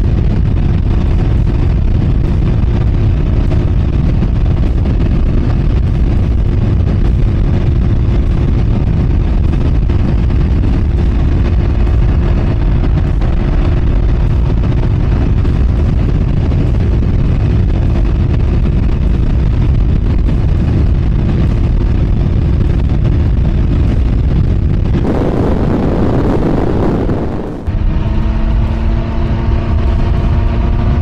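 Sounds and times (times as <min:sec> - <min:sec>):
rushing noise: 0:00.0 - 0:28.9
motorcycle engine running: 0:00.0 - 0:31.0
wind rumble on microphone: 0:00.0 - 0:31.0.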